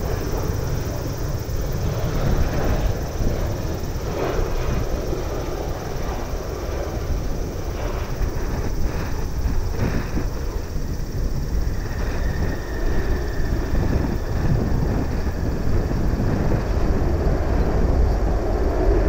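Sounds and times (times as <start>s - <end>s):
jet airliner passing low: 0.0s - 19.0s.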